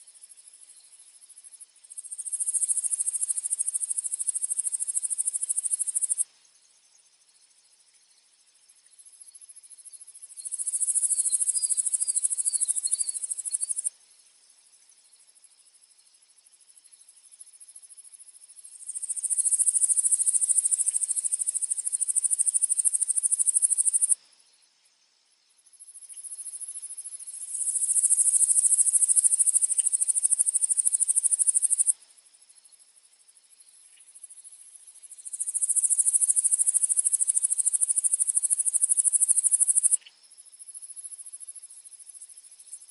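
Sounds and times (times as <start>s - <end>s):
insects trilling: 0.0s - 17.1s, 17.7s - 24.6s, 25.6s - 42.9s.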